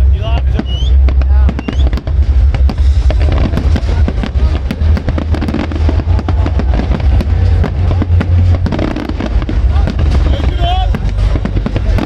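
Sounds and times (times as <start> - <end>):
deep rumble: 0.0 - 12.0
fireworks bangs and crackles: 0.0 - 12.0.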